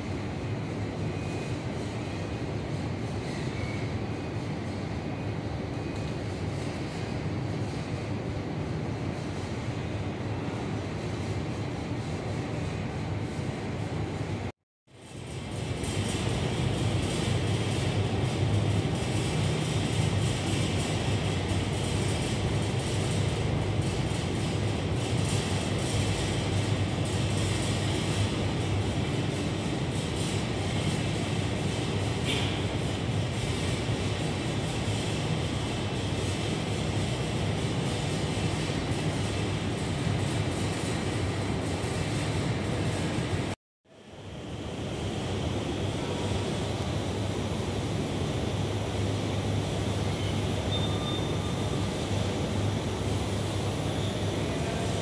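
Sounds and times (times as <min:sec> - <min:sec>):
metro station rumble and hiss: 0:00.0 - 0:55.0.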